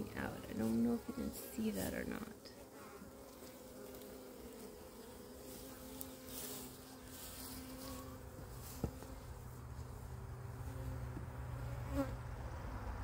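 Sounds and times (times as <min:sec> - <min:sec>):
bees buzzing: 0:00.0 - 0:12.3.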